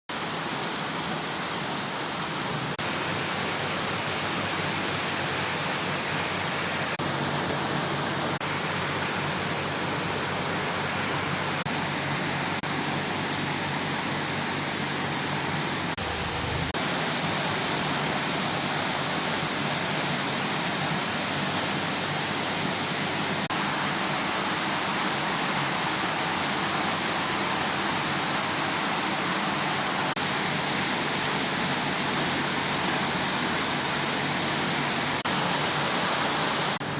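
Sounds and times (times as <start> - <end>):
floodwater rushing: 0.1 - 36.9
heavy rain pouring: 0.1 - 36.9.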